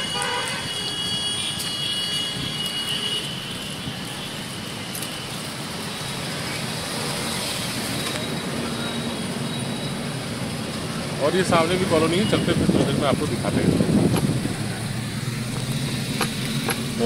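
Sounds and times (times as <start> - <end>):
vehicle rumbling along road: 1.4 - 17.0.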